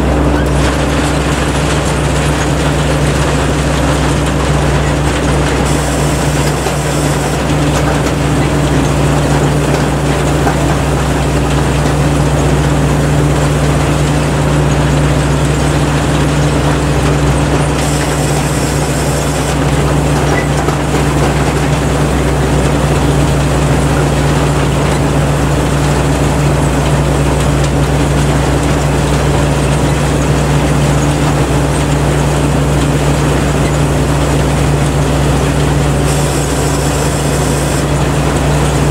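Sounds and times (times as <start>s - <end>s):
combine harvester engine drone: 0.0s - 38.9s
machinery rattling: 0.0s - 38.9s.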